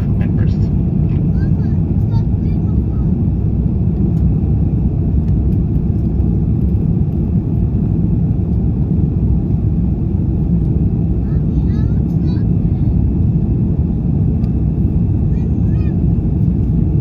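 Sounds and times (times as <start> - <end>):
airliner cabin low rumble: 0.0 - 17.0.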